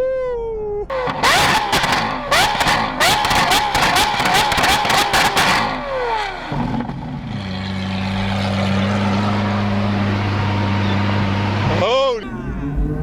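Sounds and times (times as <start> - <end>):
car engine revving and idling: 0.9 - 13.0
sharp exhaust cracks: 0.9 - 13.0.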